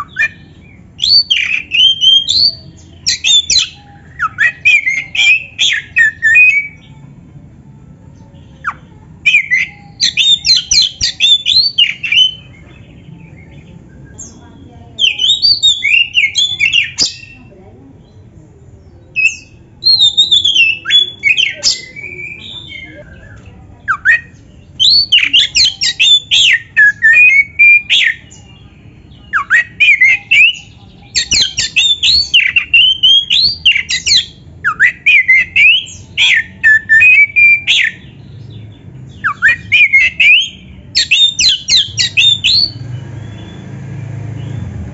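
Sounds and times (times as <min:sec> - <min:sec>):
bird singing whistled song: 0:00.0 - 0:06.9, 0:08.5 - 0:12.6, 0:15.0 - 0:17.4, 0:19.0 - 0:44.7.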